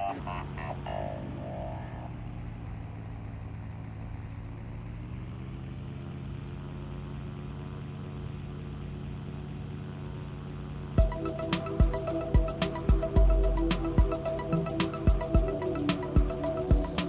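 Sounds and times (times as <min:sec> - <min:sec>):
airliner engines droning: 0:00.0 - 0:17.0.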